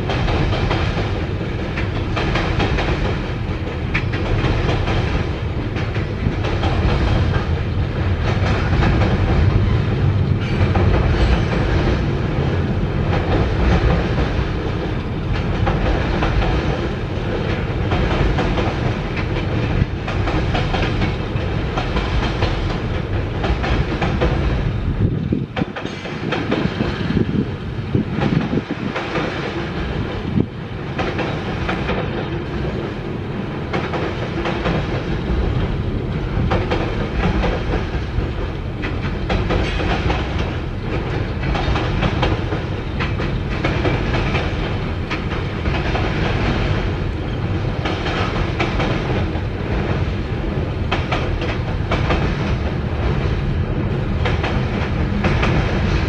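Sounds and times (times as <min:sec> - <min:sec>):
train rumbling over steel bridge: 0:00.0 - 0:56.0.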